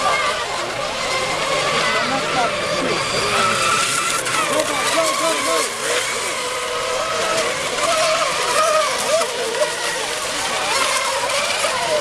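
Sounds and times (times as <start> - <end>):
model boat motors whining: 0.0 - 12.0.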